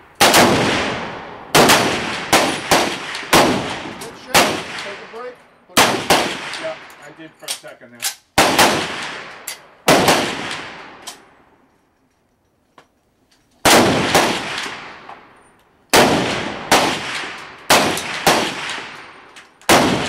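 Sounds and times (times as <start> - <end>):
rifle shots echoing: 0.2 - 7.1, 8.4 - 11.3, 13.6 - 20.0.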